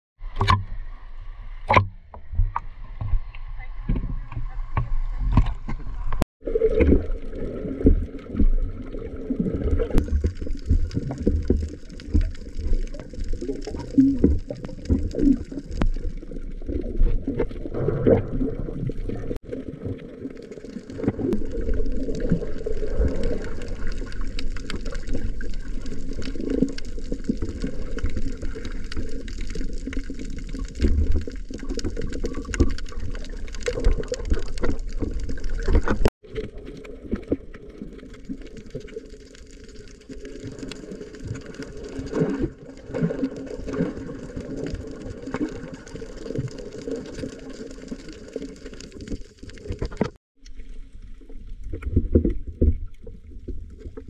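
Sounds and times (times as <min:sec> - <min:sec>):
underwater water wash: 0:00.2 - 0:54.0.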